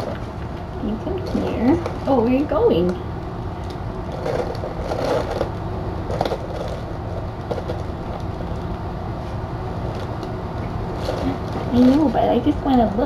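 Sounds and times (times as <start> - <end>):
low background hum: 0.0 - 13.0
rustling and crackling: 0.0 - 13.0.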